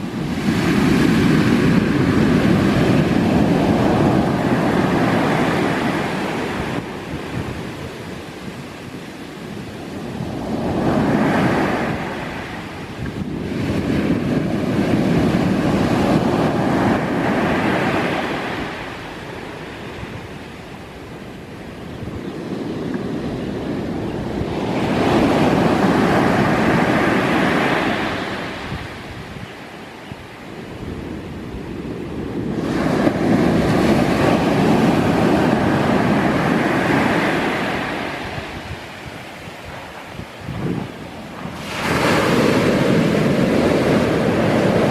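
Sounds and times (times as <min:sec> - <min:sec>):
ocean waves breaking on shore: 0:00.0 - 0:44.9.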